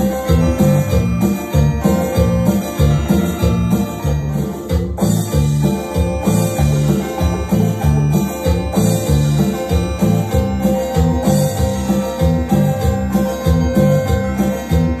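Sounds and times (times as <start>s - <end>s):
electronic keyboard music: 0.0s - 15.0s.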